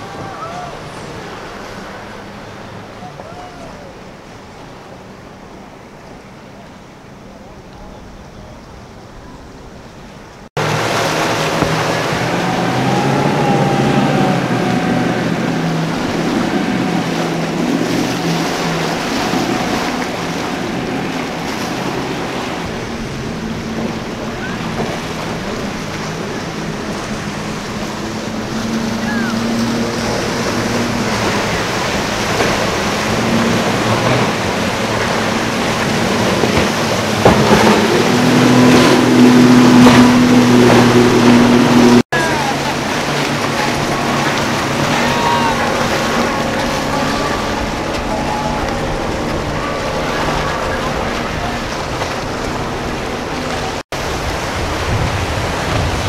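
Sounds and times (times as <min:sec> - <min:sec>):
outboard motors droning: 0:00.0 - 0:56.0
waves: 0:00.0 - 0:56.0
wind noise: 0:07.8 - 0:56.0.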